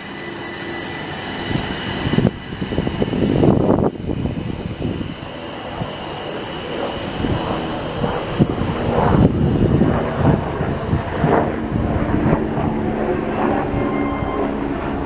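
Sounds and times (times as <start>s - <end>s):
passenger train rumbling: 0.0s - 15.0s.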